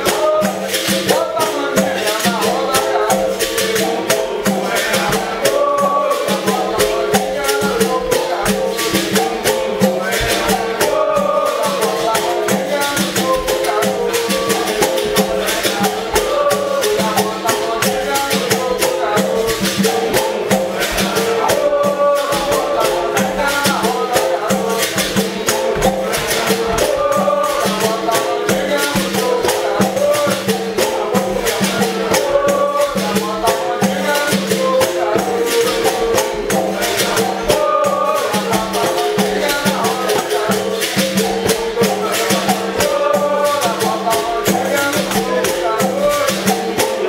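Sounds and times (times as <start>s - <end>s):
berimbaus struck rhythmically: 0.0s - 47.0s
pandeiro: 0.0s - 47.0s
shakers rattling: 0.0s - 47.0s
voices singing: 0.0s - 47.0s.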